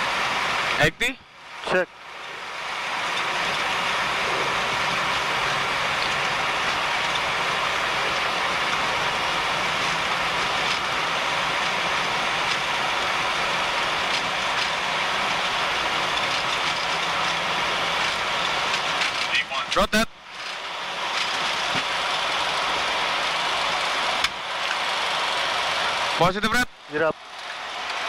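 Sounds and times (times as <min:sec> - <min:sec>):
jet engines roaring at takeoff: 0:00.0 - 0:28.0.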